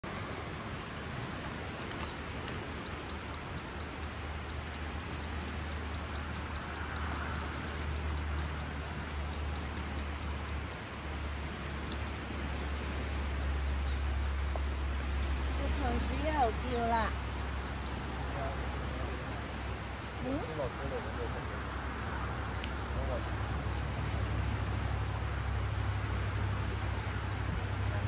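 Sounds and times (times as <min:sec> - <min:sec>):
low outdoor rumble and hiss: 0:00.0 - 0:28.0.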